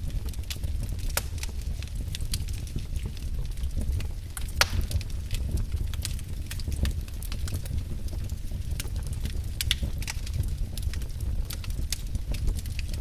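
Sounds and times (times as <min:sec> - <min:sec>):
low rumble of fire: 0:00.0 - 0:13.0
wood fire crackling and popping: 0:00.0 - 0:13.0.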